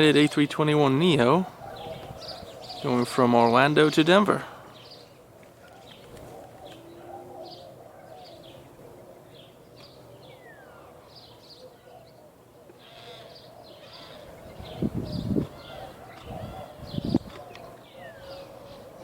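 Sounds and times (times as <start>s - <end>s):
faint outdoor background: 0.0s - 19.0s
small birds chirping: 0.0s - 19.0s.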